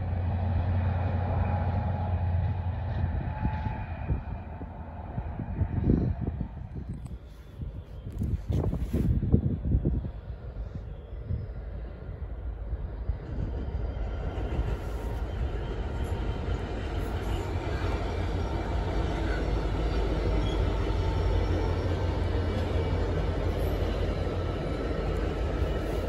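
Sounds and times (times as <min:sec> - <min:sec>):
diesel locomotive engine: 0:00.0 - 0:26.0
train wheel rumble: 0:00.0 - 0:26.0.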